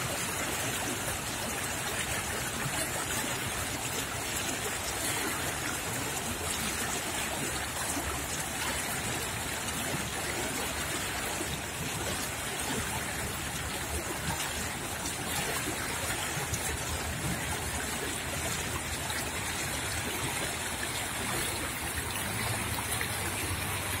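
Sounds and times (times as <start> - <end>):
stream rushing over riffles: 0.0 - 24.0.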